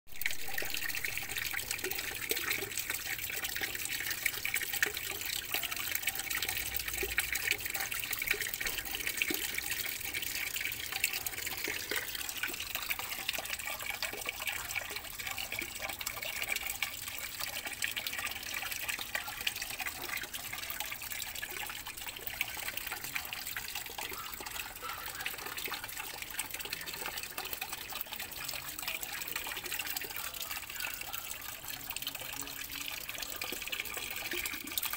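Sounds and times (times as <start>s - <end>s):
water splashing into pond: 0.1s - 34.9s.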